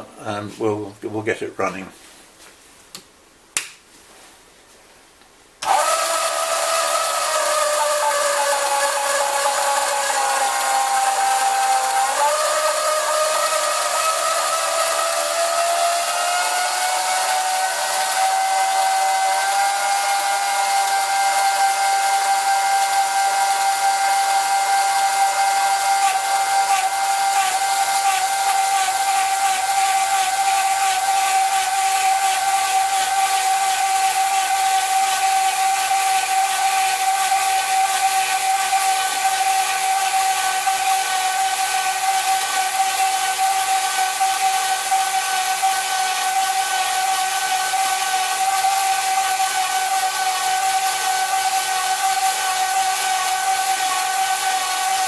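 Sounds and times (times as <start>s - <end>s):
bandsaw cutting metal whine: 5.6s - 55.0s.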